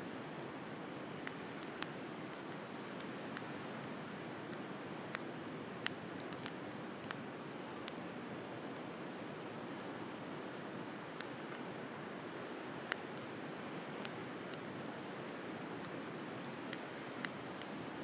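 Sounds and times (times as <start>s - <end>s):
wood bonfire crackling: 0.0s - 18.0s.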